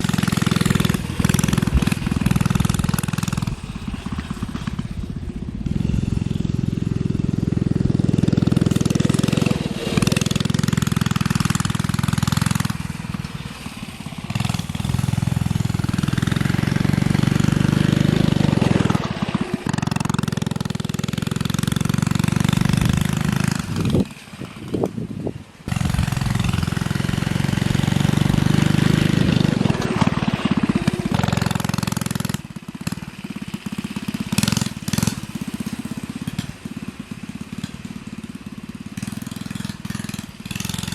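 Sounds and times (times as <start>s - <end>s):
minibike engine running hard: 0.0s - 40.9s.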